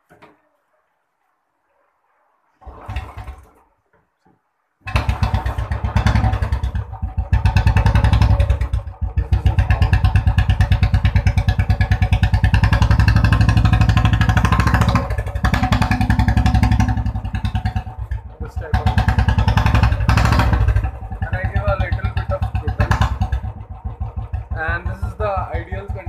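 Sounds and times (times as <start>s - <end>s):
loud motorcycle engine running: 4.8s - 26.0s.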